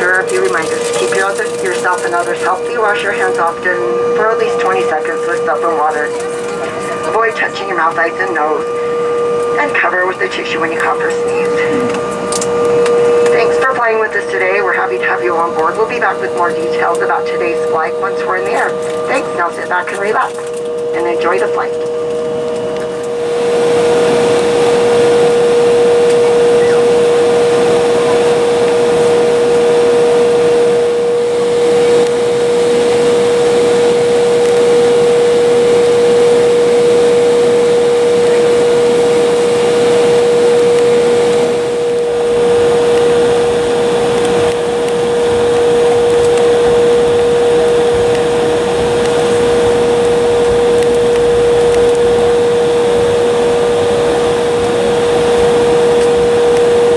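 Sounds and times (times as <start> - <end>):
high engine whine: 0.0 - 56.9
jet engines droning: 0.0 - 56.9.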